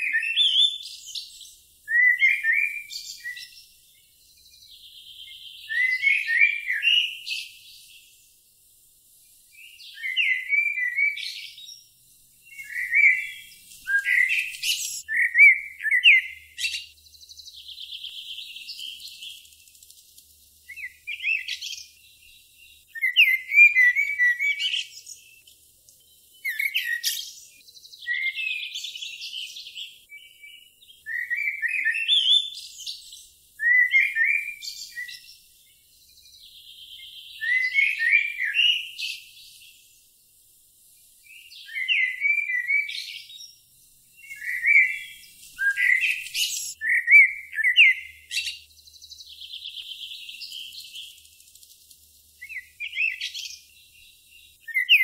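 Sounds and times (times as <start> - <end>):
songbird chirping and whistling: 0.0 - 8.2, 9.4 - 19.7, 20.6 - 39.9, 41.2 - 51.4, 52.3 - 55.0.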